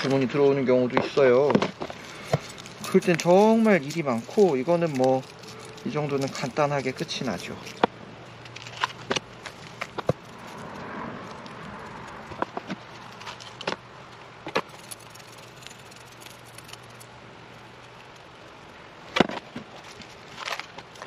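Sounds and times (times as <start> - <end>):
low steady hum: 0.0 - 21.0
soil rustling: 0.0 - 21.0.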